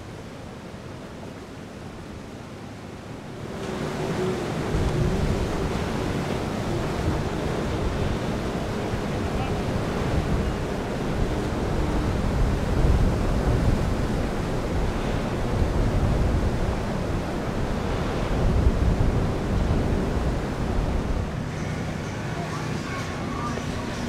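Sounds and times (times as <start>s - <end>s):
choppy water: 0.0s - 24.0s
wind buffeting microphone: 3.4s - 24.0s.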